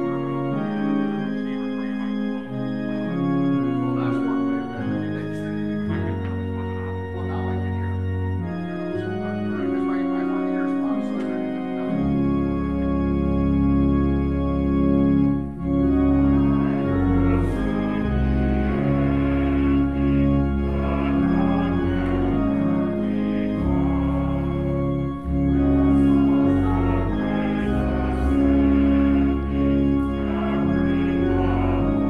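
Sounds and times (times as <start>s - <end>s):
church organ playing hymn chords: 0.0s - 32.0s.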